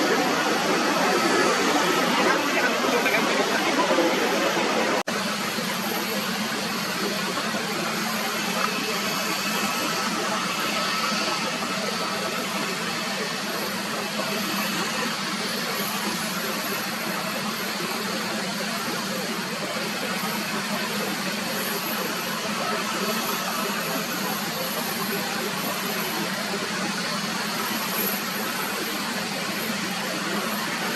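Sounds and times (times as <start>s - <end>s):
jet engine roar: 0.0s - 30.9s.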